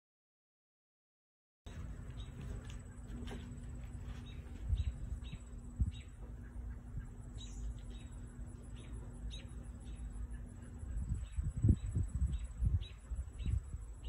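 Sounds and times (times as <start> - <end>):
outdoor rumble and hum: 1.7 - 14.0
small birds chirping: 1.7 - 14.0.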